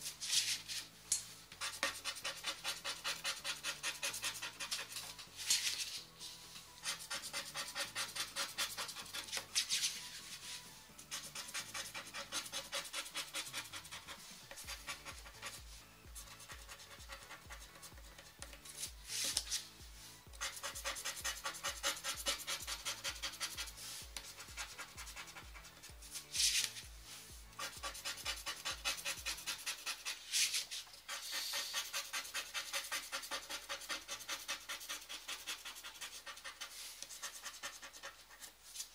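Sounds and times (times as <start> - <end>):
scratch cards being scratched: 0.0 - 0.9, 1.5 - 38.9.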